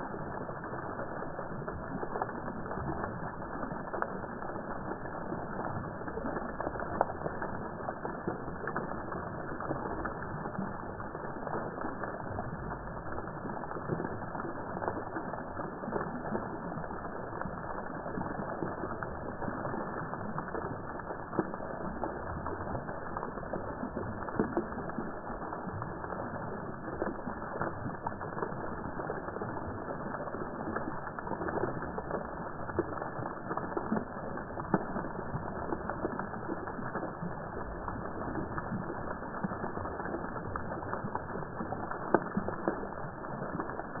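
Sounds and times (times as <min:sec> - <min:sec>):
fountain water splashing: 0:00.0 - 0:44.0.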